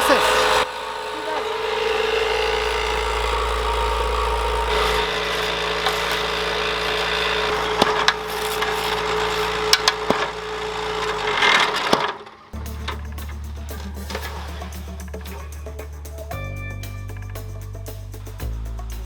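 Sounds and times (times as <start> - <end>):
block making machine humming: 0.0 - 16.4
sharp machine knocks: 0.1 - 15.6.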